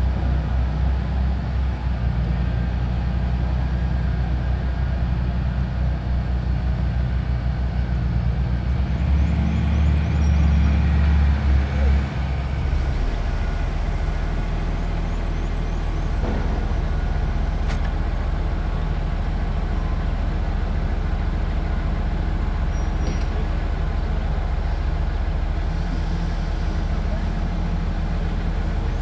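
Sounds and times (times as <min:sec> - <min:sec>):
diesel engine rumbling: 0:00.0 - 0:29.0.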